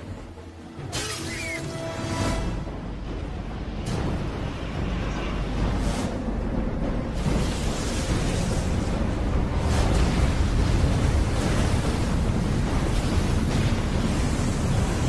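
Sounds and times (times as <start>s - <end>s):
rushing and crashing water: 0.0s - 15.0s
deep rumble: 2.3s - 15.0s.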